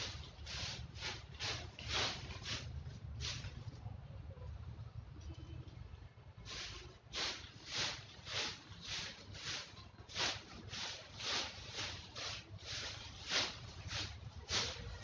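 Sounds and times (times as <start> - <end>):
dry leaves being swept: 0.0 - 3.7, 6.4 - 15.0.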